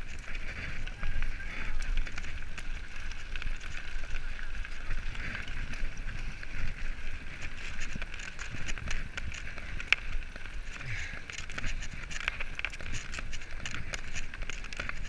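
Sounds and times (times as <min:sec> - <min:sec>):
bike rattling over bumps: 0:00.0 - 0:15.0
tyres on loose gravel: 0:00.0 - 0:15.0
wind buffeting microphone: 0:00.0 - 0:15.0.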